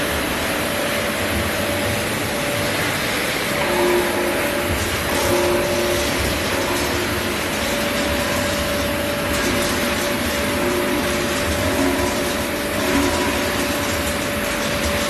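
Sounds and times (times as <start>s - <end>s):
mid-pitched mechanical whine: 0.0s - 15.0s
production line machinery running: 0.0s - 15.0s.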